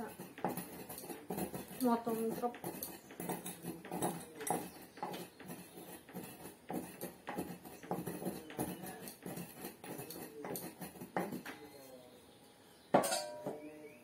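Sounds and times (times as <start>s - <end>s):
pestle pounding in steel bowl: 0.0s - 11.6s.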